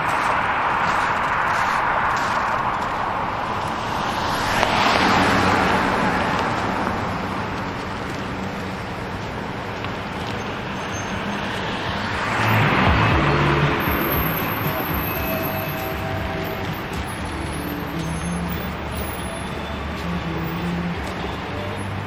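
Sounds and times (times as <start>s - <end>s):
cars passing: 0.0s - 22.0s.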